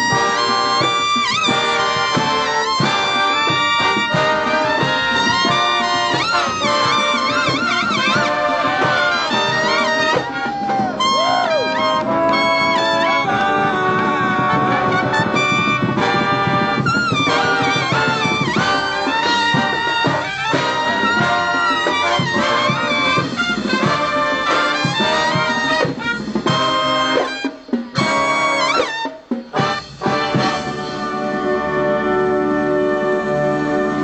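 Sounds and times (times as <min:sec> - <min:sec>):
brass band playing lively tune: 0:00.0 - 0:34.0.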